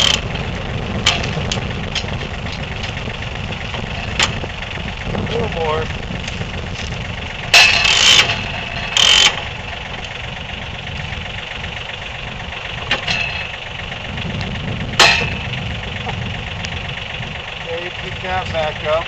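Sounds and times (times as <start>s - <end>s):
harsh metallic bursts: 0.0s - 19.0s
sawmill engine running: 0.0s - 19.0s.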